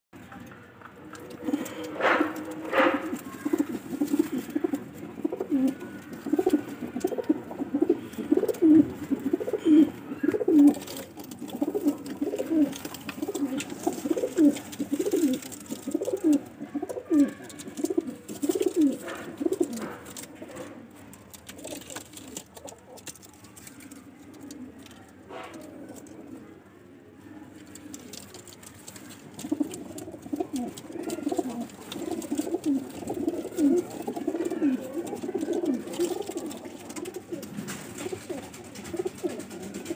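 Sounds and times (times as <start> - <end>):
pigeons cooing: 1.0 - 39.9.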